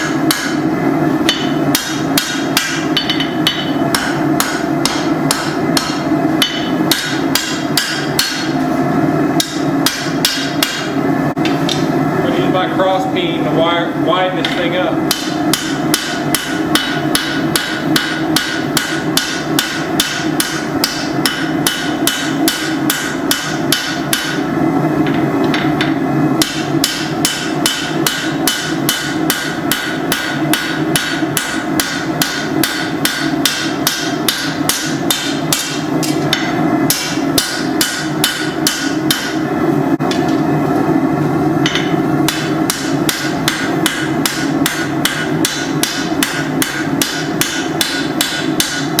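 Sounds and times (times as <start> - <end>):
hammer striking hot steel on anvil: 0.0 - 8.6, 9.3 - 11.9, 14.4 - 40.5, 41.6 - 49.0.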